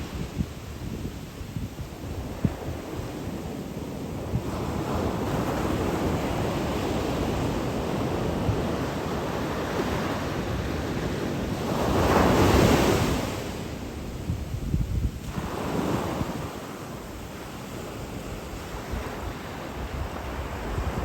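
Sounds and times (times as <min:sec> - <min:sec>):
sea waves washing ashore: 0:00.0 - 0:21.0
wind buffeting microphone: 0:00.0 - 0:21.0.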